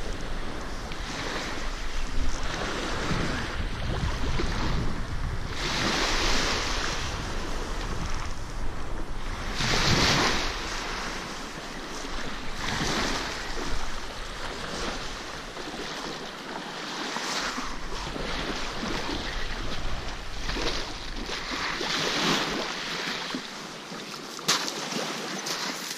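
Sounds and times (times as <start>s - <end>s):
wind buffeting microphone: 0.0s - 23.4s
waves washing over pebbles: 0.0s - 25.9s.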